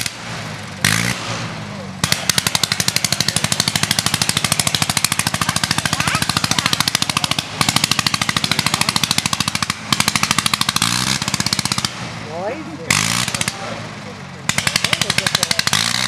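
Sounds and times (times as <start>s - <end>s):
rotary aircraft engine crackling: 0.0s - 16.0s.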